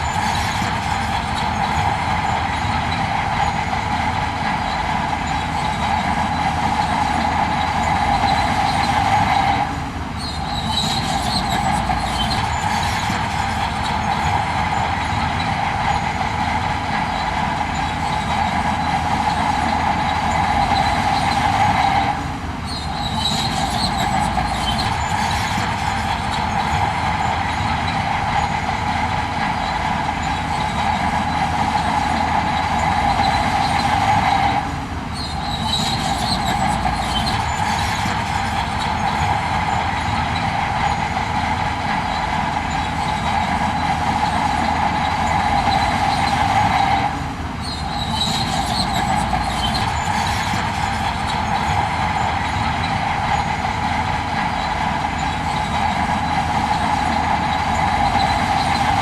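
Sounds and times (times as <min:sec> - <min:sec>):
heavy machinery rumbling and whining: 0:00.0 - 0:59.0.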